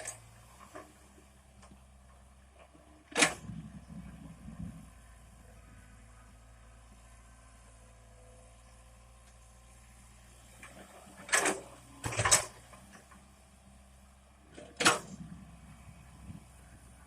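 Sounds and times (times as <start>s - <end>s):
excavator engine hum: 0.0s - 17.0s.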